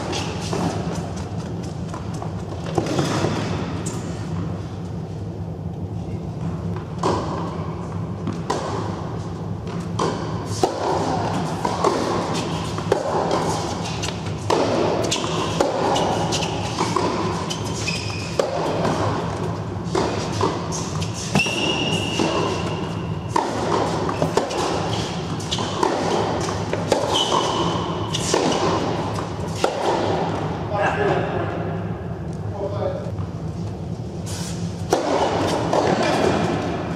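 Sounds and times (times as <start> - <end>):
balls bouncing on hard court: 0.0 - 4.6, 6.4 - 31.2, 34.8 - 36.9
tennis balls hit by rackets: 0.0 - 4.6, 6.4 - 31.2, 34.5 - 36.9
steady low hum: 0.0 - 36.9.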